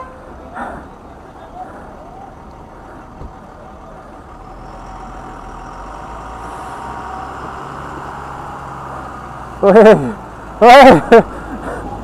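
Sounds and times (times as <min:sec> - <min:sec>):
road and wind noise: 0:00.0 - 0:12.0
vehicle engine running: 0:00.0 - 0:12.0.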